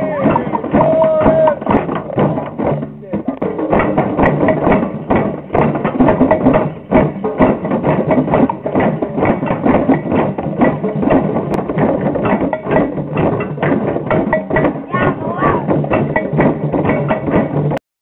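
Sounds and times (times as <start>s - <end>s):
group playing hand drums: 0.0s - 17.8s.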